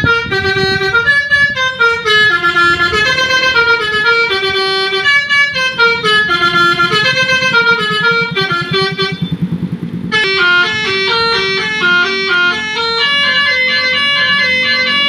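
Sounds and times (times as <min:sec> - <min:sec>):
electric horn playing organ-like tune: 0:00.0 - 0:15.0
low throb: 0:00.0 - 0:15.0.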